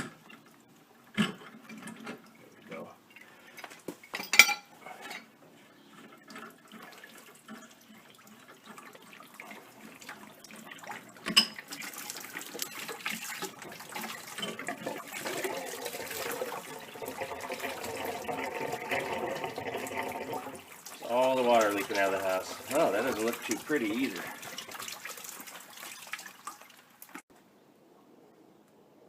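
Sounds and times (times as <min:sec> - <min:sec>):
water pouring and splashing from pipe: 0:00.0 - 0:27.3.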